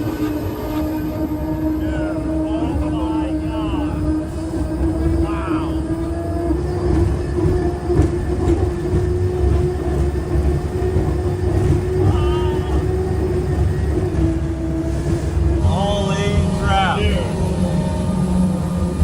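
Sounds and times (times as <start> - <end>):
race boat turbine droning: 0.0 - 19.0.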